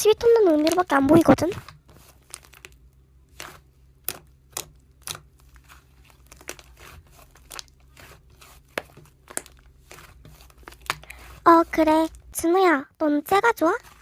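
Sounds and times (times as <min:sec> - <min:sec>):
slime crackling and popping: 0:00.0 - 0:12.4.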